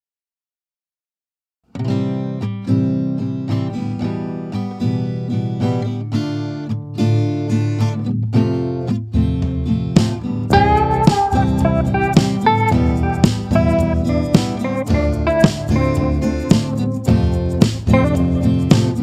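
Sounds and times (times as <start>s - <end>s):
strummed acoustic guitar: 1.7s - 19.0s.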